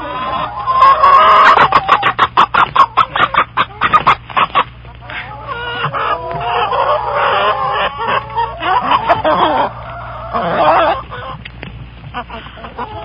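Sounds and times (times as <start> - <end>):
chickens clucking and cackling: 0.0 - 13.0.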